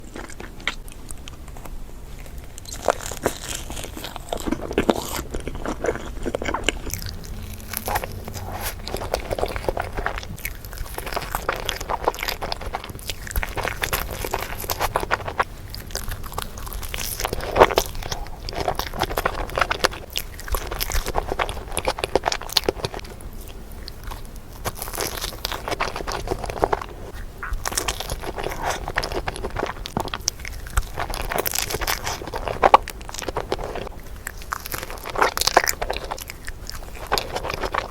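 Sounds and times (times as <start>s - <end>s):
biting and chewing crepe: 0.0s - 37.9s.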